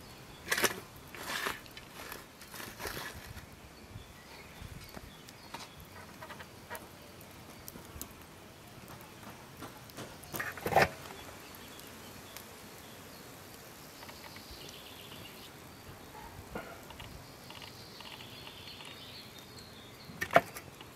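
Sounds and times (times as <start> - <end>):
fire crackling: 0.0 - 20.9.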